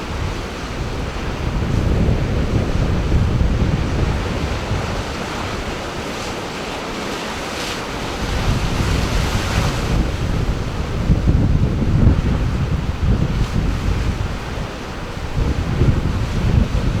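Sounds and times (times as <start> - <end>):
sea waves washing on shore: 0.0 - 17.0
wind buffeting microphone: 0.0 - 17.0.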